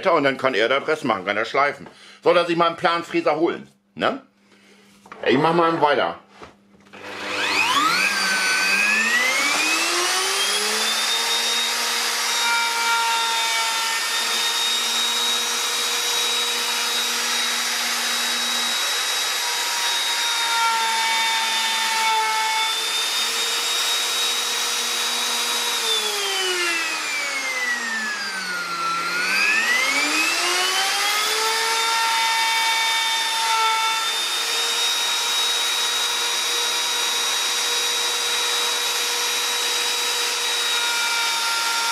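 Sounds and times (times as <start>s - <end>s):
router whining through wood: 6.8s - 41.9s.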